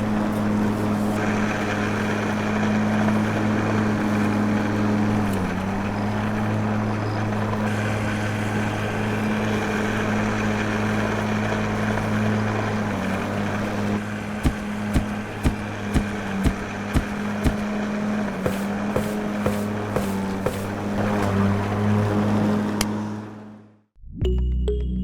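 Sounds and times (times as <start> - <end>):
small motor humming: 0.0 - 23.5.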